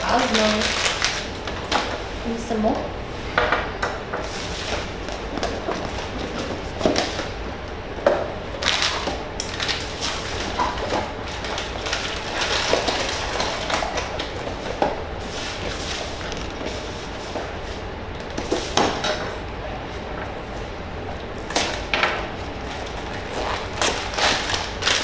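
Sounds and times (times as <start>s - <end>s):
cardboard and packaging rustling: 0.0s - 2.2s, 4.2s - 7.4s, 8.6s - 20.8s, 21.4s - 25.0s.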